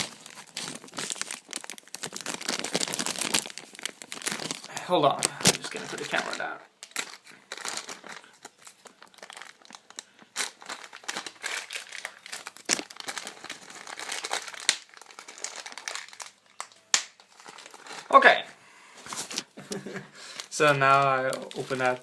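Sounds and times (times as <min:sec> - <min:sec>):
plastic bag crinkling: 0:00.0 - 0:18.2, 0:20.2 - 0:22.0.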